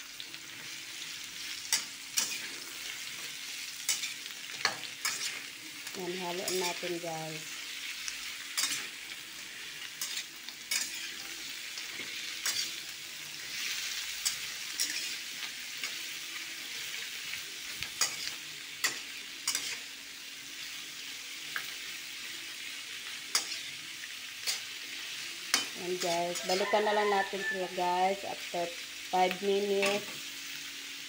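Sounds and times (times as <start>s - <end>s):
food sizzling in a wok: 0.0s - 31.0s.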